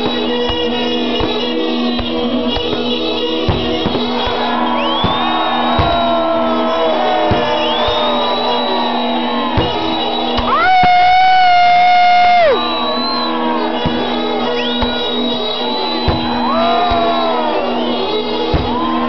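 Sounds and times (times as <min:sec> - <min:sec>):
bagpipes playing a melody: 0:00.0 - 0:19.0
fireworks bangs: 0:02.0 - 0:11.4, 0:12.6 - 0:19.0.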